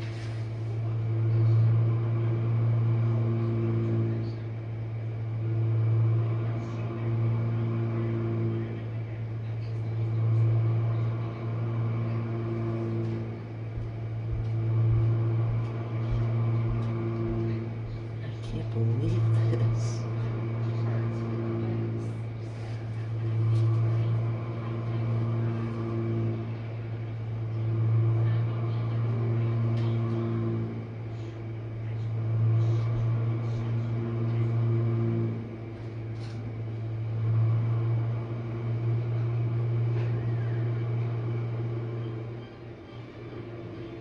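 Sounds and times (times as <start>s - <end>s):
dishwasher pump motor humming: 0.0s - 44.0s.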